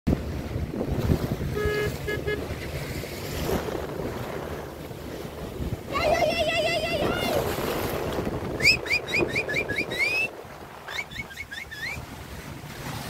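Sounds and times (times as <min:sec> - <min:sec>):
low boat rumble: 0:00.1 - 0:13.0
water rushing past boat hull: 0:00.1 - 0:13.0
wind buffeting microphone: 0:00.1 - 0:13.0.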